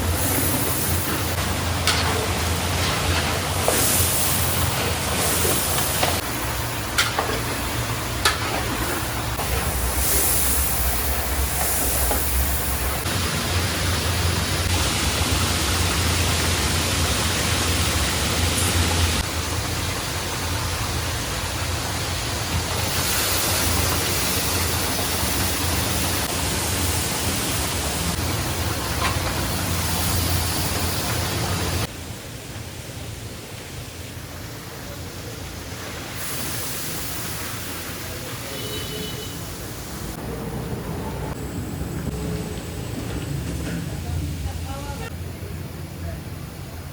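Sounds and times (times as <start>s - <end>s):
cooking hissing and rushing: 0.0s - 31.9s, 33.7s - 44.4s.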